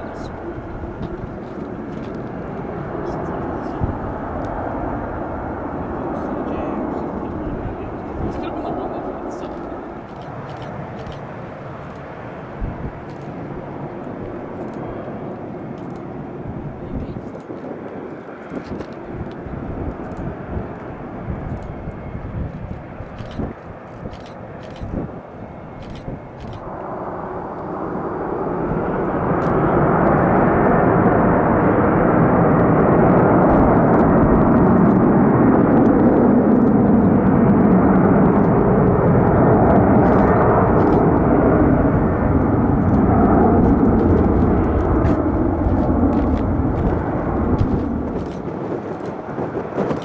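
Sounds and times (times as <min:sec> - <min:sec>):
jet engines rumbling past: 0:00.0 - 0:50.0.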